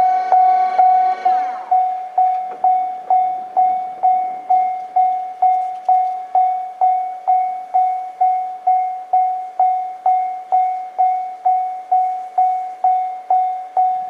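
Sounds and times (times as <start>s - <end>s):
level crossing alarm bell ringing: 0.0s - 14.0s.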